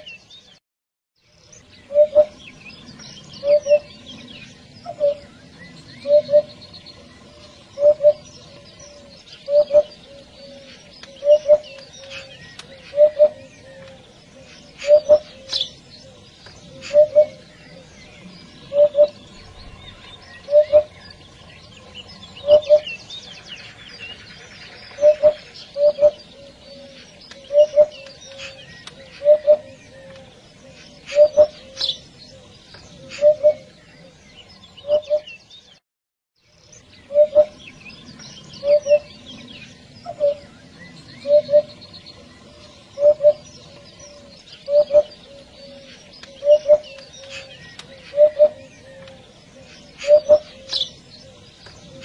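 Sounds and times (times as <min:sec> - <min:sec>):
small birds chirping: 0:00.0 - 0:00.6, 0:01.2 - 0:35.8, 0:36.4 - 0:52.0
hoopoe calling: 0:01.8 - 0:02.5, 0:03.4 - 0:05.4, 0:06.0 - 0:34.2, 0:37.0 - 0:37.7, 0:38.5 - 0:52.0.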